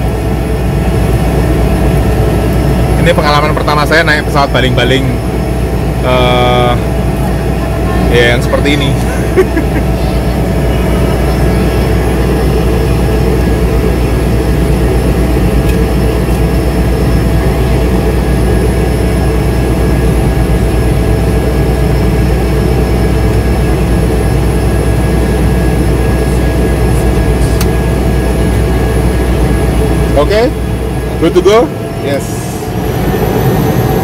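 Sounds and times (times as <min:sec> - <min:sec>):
turboprop engine idling: 0:00.0 - 0:34.0.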